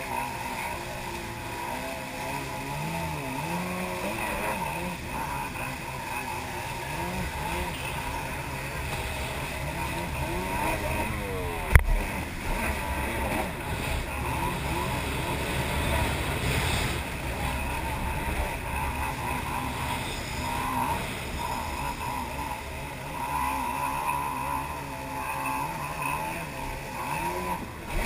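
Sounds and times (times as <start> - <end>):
jet ski engine running: 0.0 - 28.0
rushing water: 0.0 - 28.0.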